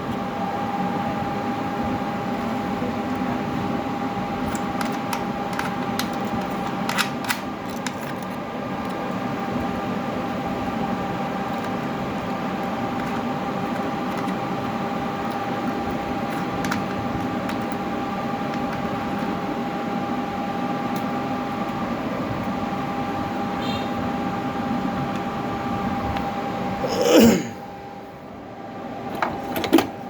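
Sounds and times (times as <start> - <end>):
fan-like whir: 0.0 - 30.0.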